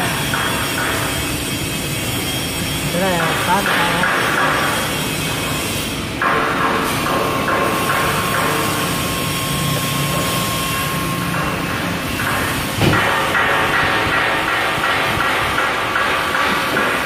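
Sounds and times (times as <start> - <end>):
press brake machine running: 0.0 - 17.0.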